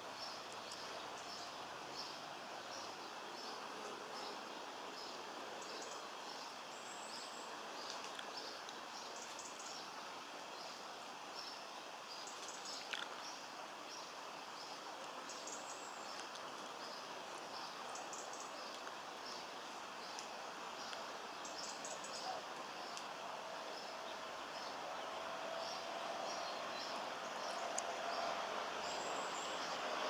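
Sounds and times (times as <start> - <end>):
steady hiss: 0.0 - 30.0
small birds chirping: 0.1 - 30.0.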